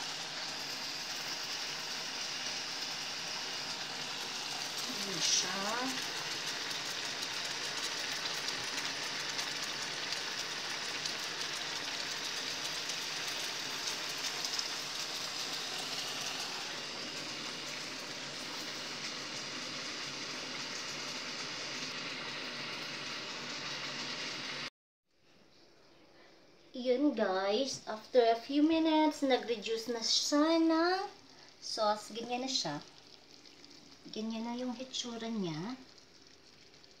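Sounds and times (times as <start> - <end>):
sauce sizzling in a frying pan: 0.0 - 24.7, 28.1 - 37.0.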